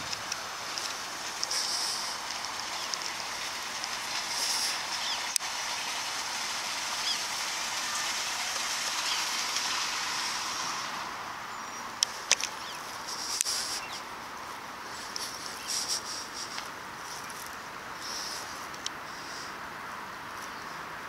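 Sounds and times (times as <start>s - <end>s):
water running from culvert: 0.0s - 21.0s.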